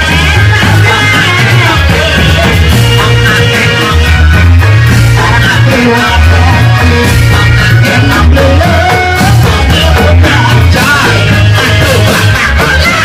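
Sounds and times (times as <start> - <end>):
music over loudspeakers: 0.0 - 13.0
pulsing bass line: 0.0 - 13.0.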